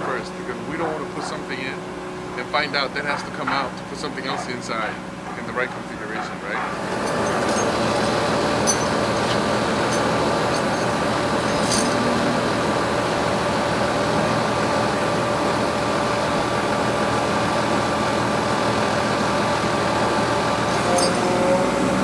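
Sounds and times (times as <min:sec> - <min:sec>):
diesel engine running: 0:00.0 - 0:22.0
steady whine: 0:00.0 - 0:22.0.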